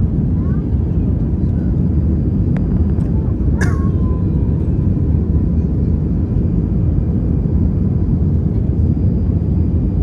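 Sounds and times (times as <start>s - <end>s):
airplane cabin jet engine roar: 0.0s - 10.0s.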